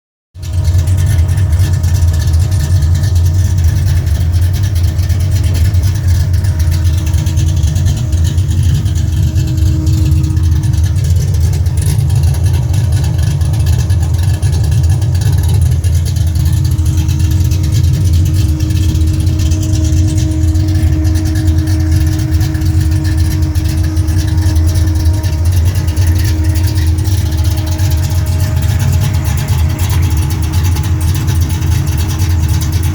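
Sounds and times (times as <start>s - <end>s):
car engine idling deeply: 0.3s - 32.9s.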